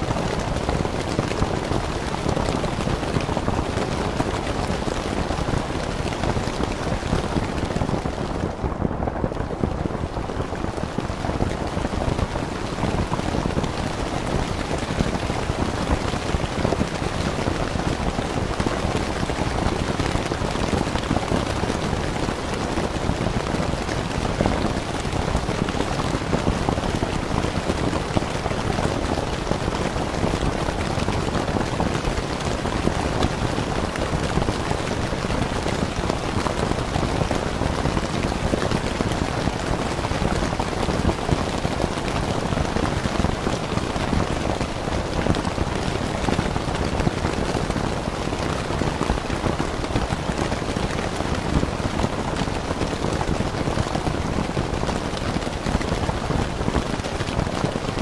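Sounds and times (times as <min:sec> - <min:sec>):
rain pattering on a tent: 0:00.0 - 0:58.0.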